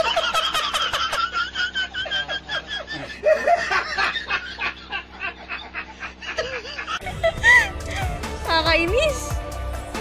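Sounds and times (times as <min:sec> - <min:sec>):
man laughing hard: 0:00.0 - 0:08.2.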